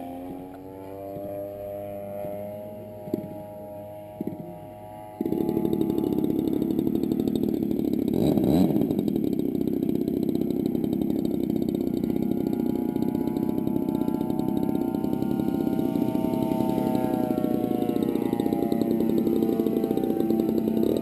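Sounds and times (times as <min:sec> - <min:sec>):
model airplane engine: 0:00.0 - 0:21.0.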